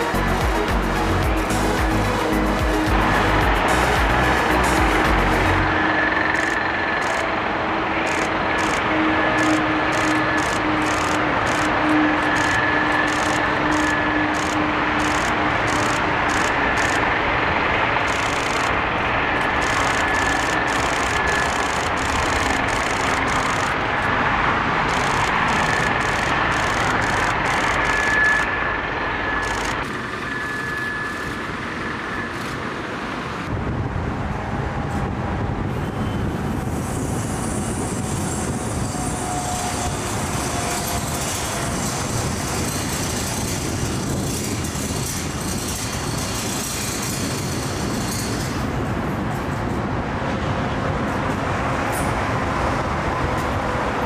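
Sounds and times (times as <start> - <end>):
jet engines taxiing: 0.0 - 54.0
motorway traffic hum: 0.0 - 54.0.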